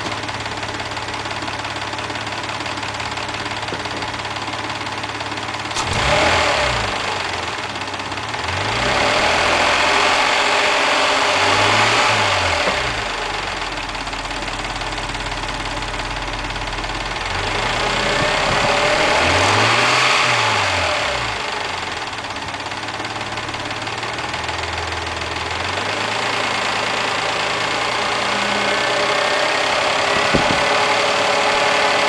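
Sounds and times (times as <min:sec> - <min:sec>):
car engine revving with clatter: 0:00.0 - 0:32.0.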